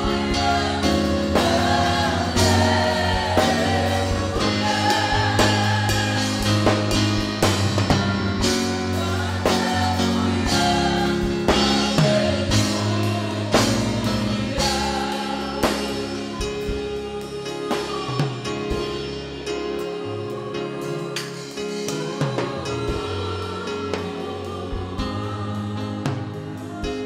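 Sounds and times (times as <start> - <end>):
band with drum kit: 0.0 - 27.0
congregation singing: 0.0 - 27.0.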